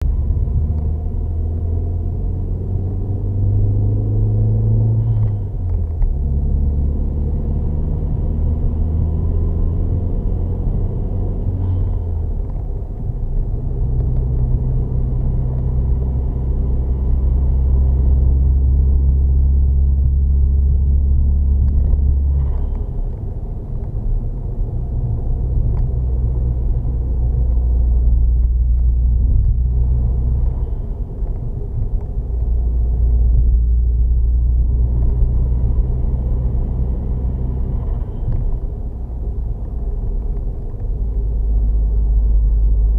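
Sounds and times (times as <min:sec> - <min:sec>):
car engine running under load: 0:00.0 - 0:42.9.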